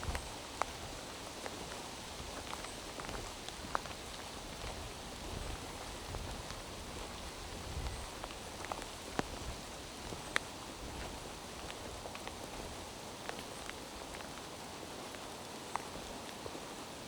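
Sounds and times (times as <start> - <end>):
rain falling through forest: 0.0 - 17.0.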